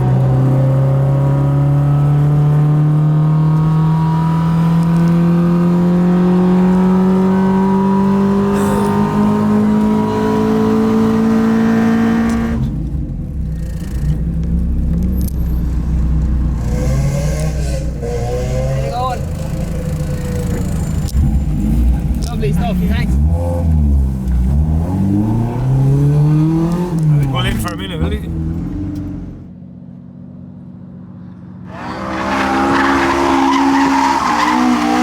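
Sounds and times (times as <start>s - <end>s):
car engine revving under load: 0.0s - 12.9s, 15.7s - 29.4s, 31.7s - 35.0s.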